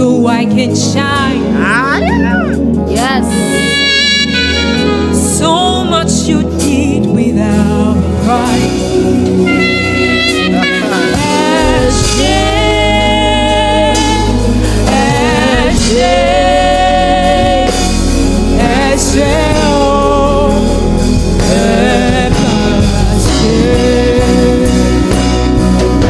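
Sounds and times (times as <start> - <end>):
gospel worship band music: 0.0 - 26.0.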